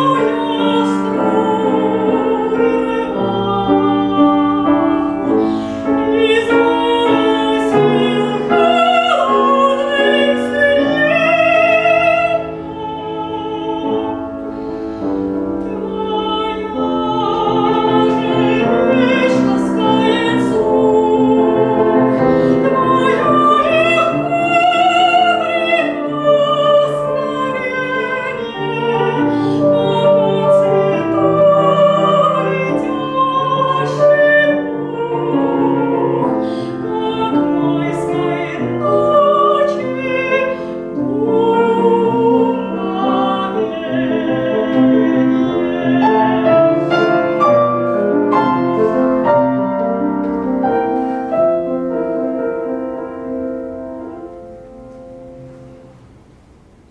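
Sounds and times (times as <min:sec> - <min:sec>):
classical voice singing with vibrato: 0:00.0 - 0:56.9
piano accompaniment: 0:00.0 - 0:56.9.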